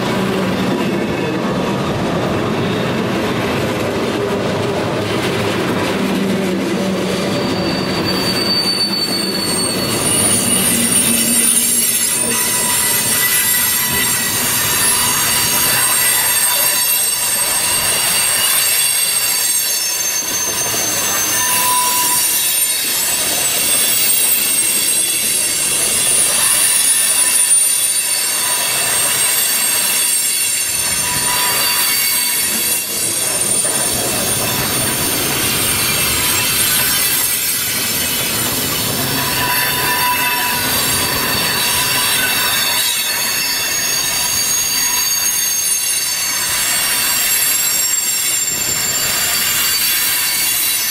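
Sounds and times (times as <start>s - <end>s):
rumble of wheels on rail: 0.0s - 50.9s
train wheels squealing: 0.0s - 50.9s.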